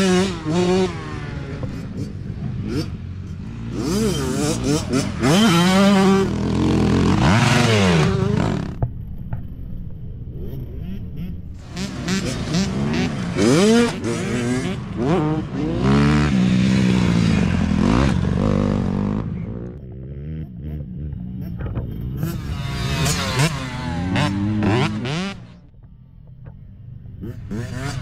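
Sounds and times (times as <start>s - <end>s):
dirt bike engines revving: 0.0s - 8.9s, 10.0s - 28.0s.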